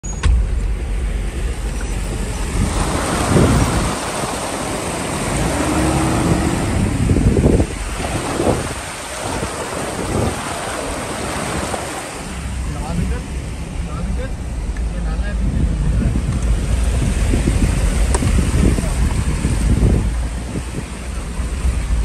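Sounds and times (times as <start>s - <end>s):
engine running low: 0.0s - 22.0s
water rushing and splashing: 0.0s - 22.0s.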